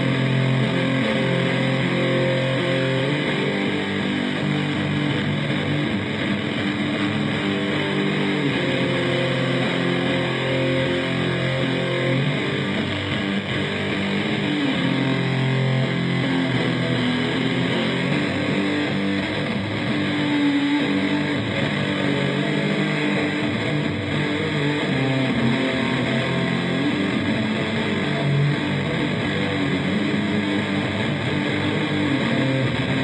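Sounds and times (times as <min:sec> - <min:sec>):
electric guitar droning riff: 0:00.0 - 0:33.0.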